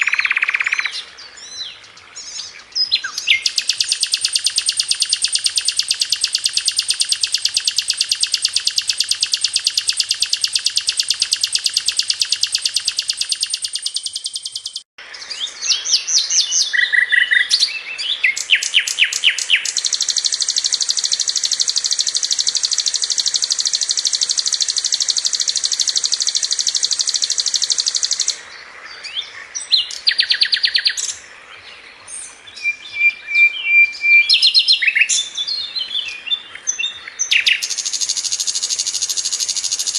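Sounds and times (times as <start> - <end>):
bird chirps and short calls: 0.0 - 1.0, 1.6 - 14.8, 15.7 - 28.4, 32.6 - 39.9
bird singing rapid trills: 0.0 - 39.9.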